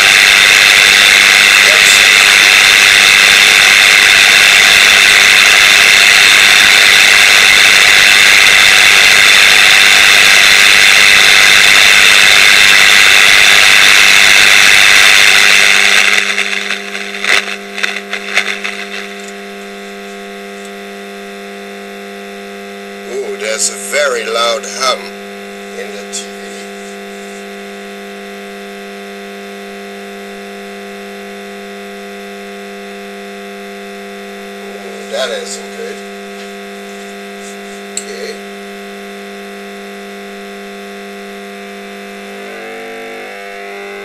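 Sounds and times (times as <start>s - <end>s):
tv set hum: 0.0s - 44.0s
tv static hiss: 0.0s - 44.0s.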